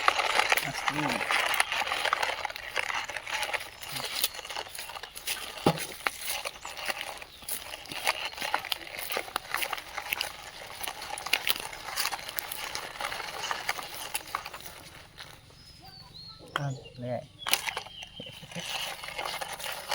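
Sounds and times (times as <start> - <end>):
rocks and gravel clattering: 0.0 - 19.9.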